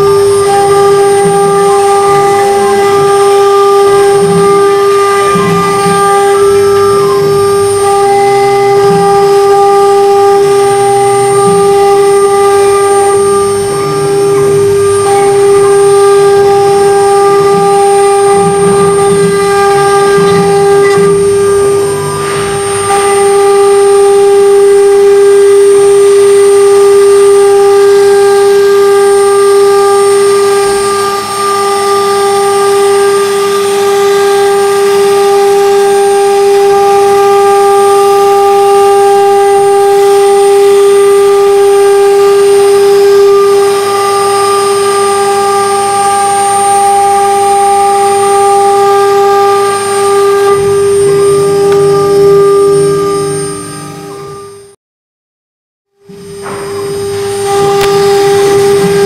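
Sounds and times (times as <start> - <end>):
wood cutting noise: 0.0 - 54.7, 56.0 - 59.0
router spindle whining: 0.0 - 54.8, 56.0 - 59.0.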